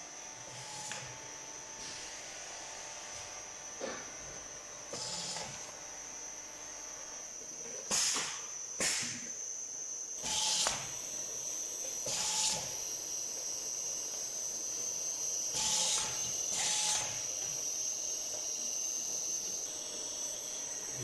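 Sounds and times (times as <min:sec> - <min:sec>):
machine high whine: 0:00.0 - 0:21.0.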